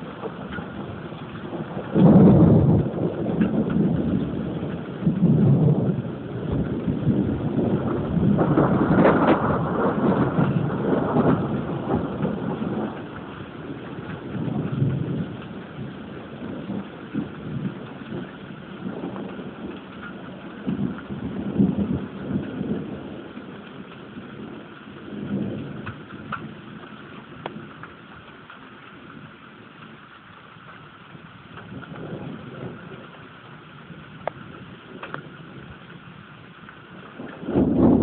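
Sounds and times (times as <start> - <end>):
steady rain: 0.0 - 38.0
thunder rumbling: 0.0 - 38.0.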